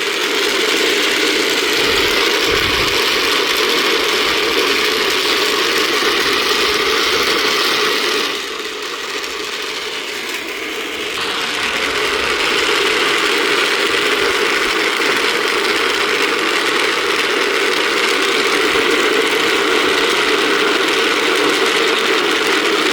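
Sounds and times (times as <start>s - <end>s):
rattling in a turning drum: 0.0s - 22.9s.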